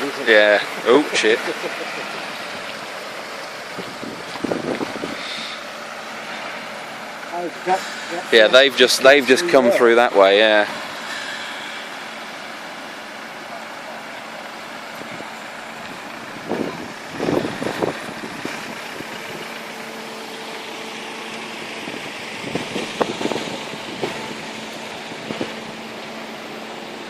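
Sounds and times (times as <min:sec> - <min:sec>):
rush of water: 0:00.0 - 0:27.0
vehicle engine running: 0:00.0 - 0:27.0.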